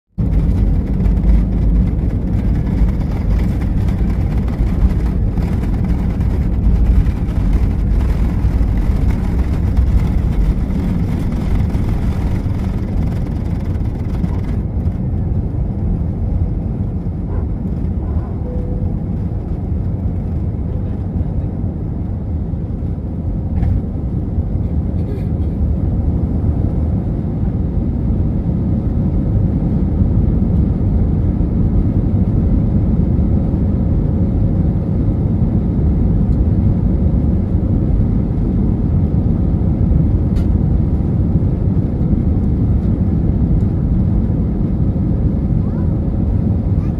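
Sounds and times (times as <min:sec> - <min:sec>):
jet engines rumbling in cabin: 0:00.1 - 0:46.9.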